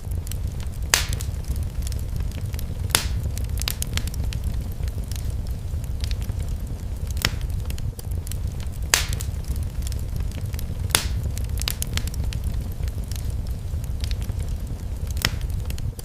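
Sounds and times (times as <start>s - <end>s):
fire crackling: 0.0s - 16.0s
sharp pops from fire: 0.0s - 16.0s.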